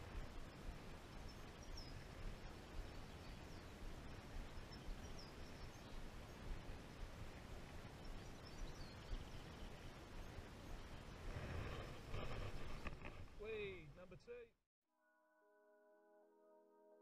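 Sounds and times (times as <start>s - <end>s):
outdoor background noise: 0.0s - 14.5s.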